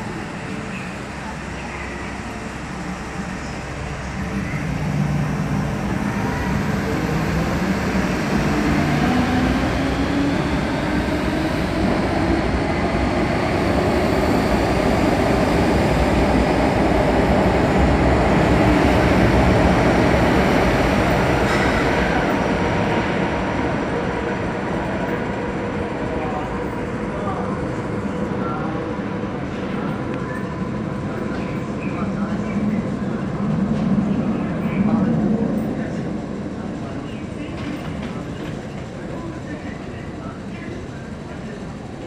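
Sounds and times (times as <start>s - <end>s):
metro train pulling out: 0.0s - 42.0s
rising train motor whine: 0.0s - 42.0s.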